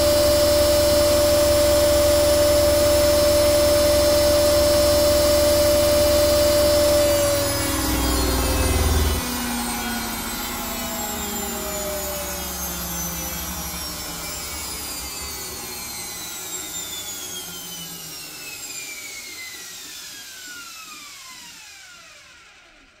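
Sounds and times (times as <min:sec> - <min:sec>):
washing machine spin winding down: 0:00.0 - 0:23.0.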